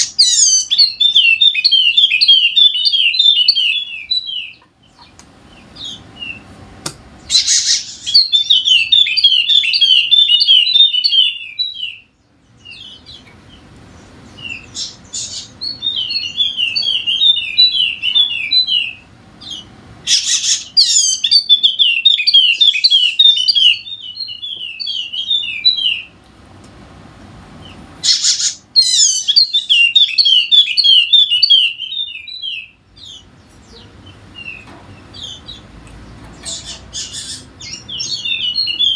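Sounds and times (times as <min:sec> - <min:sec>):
bird high twittering: 0:00.0 - 0:06.4, 0:07.2 - 0:13.6, 0:14.3 - 0:26.1, 0:27.7 - 0:35.7, 0:36.3 - 0:38.9.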